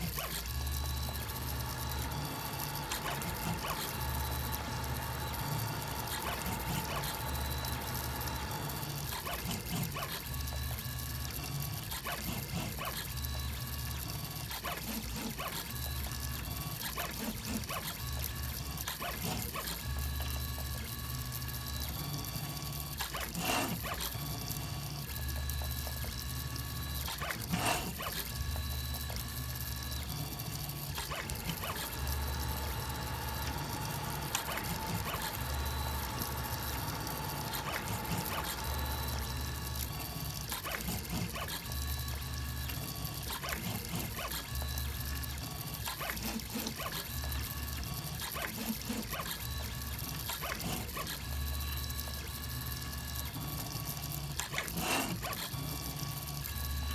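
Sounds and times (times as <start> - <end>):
stepper motors whining: 0.0 - 56.9.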